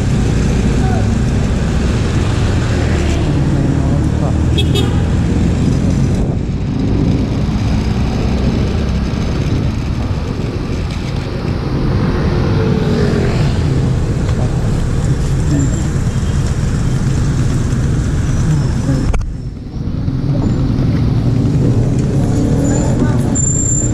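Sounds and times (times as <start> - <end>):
other vehicle engines: 0.0 - 23.9
wind and road noise: 0.0 - 23.9.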